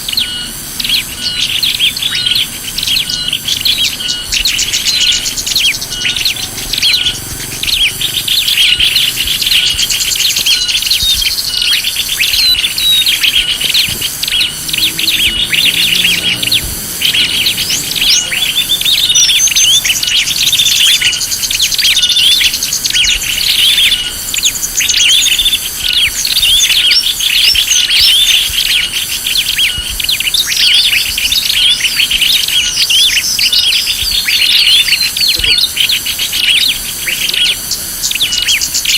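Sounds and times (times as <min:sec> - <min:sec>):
faint high pulsing trill: 0:00.0 - 0:38.9
small birds chirping: 0:00.0 - 0:38.9.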